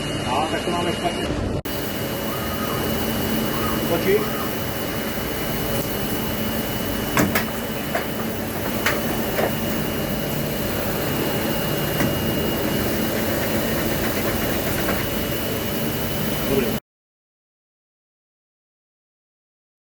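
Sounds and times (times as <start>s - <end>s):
machining centre humming and whining: 0.0s - 16.8s.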